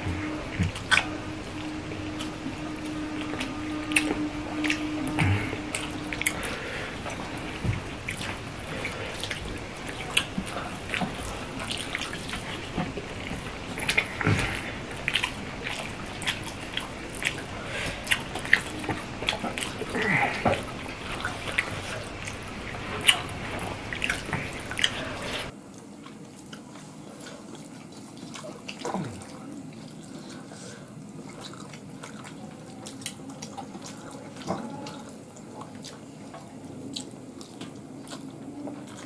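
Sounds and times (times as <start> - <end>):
chewing: 0.0 - 39.0.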